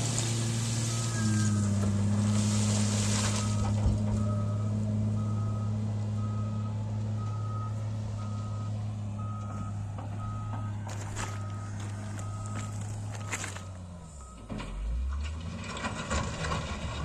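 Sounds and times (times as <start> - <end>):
engine droning: 0.0 - 17.0
reversing alarm beeping: 0.3 - 15.0.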